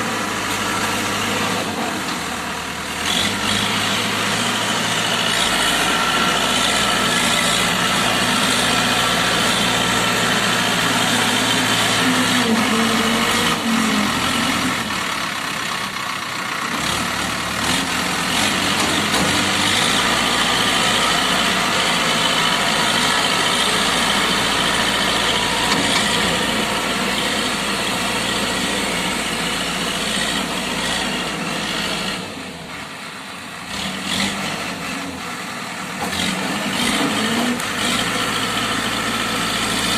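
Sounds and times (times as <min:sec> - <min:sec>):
backhoe diesel engine working: 0:00.0 - 0:39.9.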